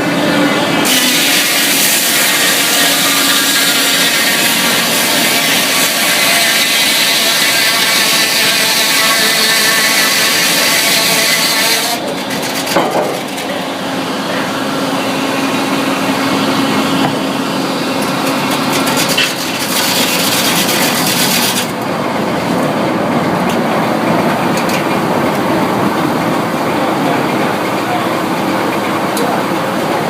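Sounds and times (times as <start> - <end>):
sawmill machinery humming: 0.0 - 30.0.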